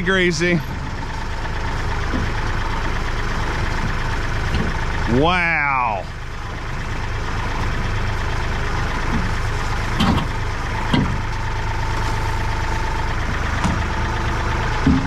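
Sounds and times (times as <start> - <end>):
thin steady whine: 0.0 - 14.2
tractor engine idling: 0.0 - 15.0.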